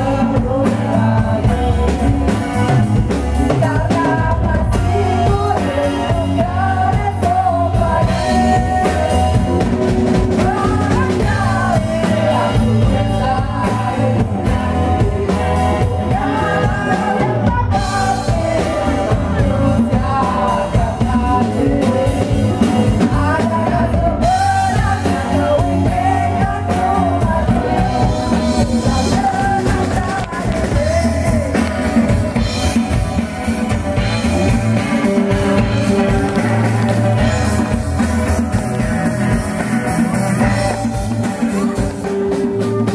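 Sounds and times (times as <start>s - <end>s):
drums: 0.0s - 42.9s
electric bass: 0.0s - 42.9s
person singing: 0.0s - 42.9s
hand drum: 6.1s - 42.9s.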